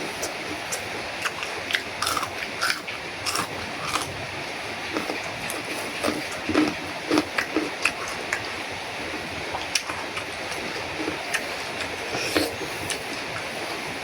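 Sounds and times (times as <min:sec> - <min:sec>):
person chewing food: 0:00.0 - 0:08.5, 0:09.5 - 0:13.6
steady background hiss: 0:00.0 - 0:14.0.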